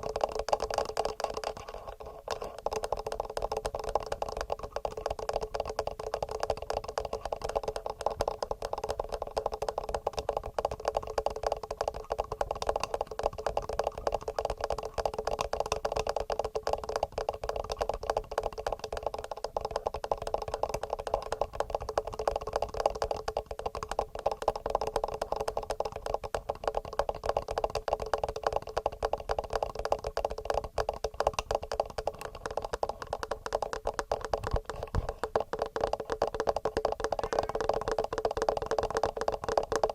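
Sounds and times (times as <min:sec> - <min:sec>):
fingernail tapping on microphone: 0:00.0 - 0:39.9.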